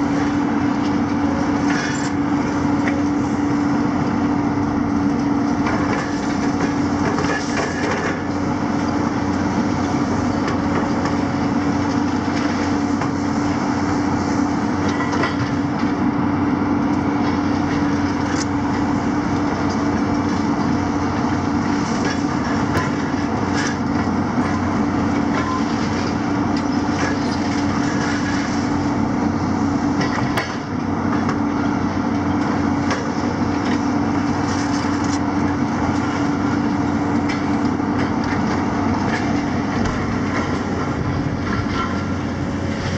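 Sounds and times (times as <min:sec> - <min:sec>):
excavator engines droning: 0:00.0 - 0:42.9.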